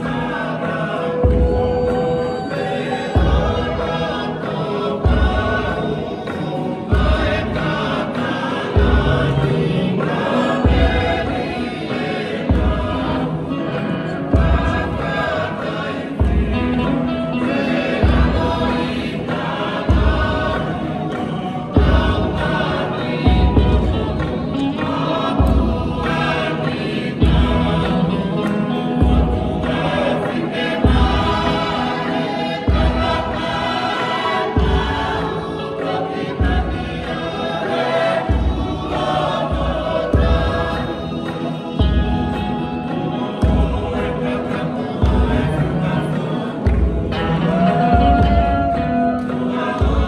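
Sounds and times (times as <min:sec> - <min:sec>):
group singing in harmony: 0:00.0 - 0:50.0.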